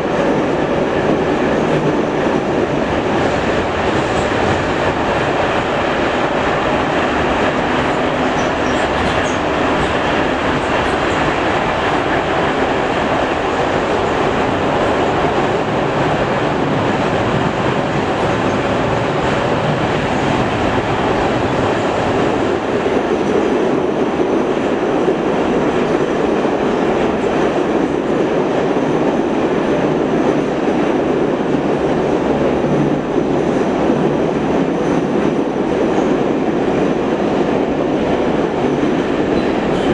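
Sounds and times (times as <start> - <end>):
metro train wheels rumbling: 0.0 - 39.9.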